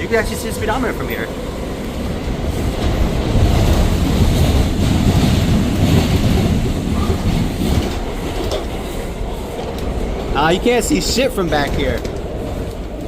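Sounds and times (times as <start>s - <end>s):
subway wheels rumbling on rail: 0.0s - 13.0s
wheels clickety-clack: 2.2s - 13.0s.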